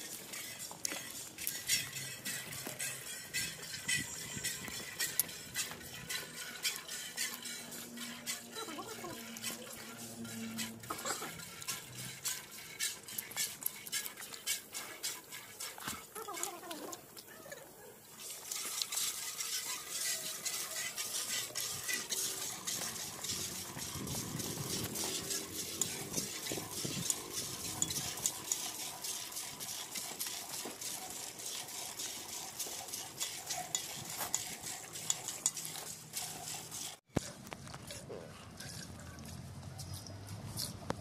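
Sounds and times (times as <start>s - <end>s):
milk squirts hitting metal bucket: 0.0s - 16.6s, 18.2s - 36.9s.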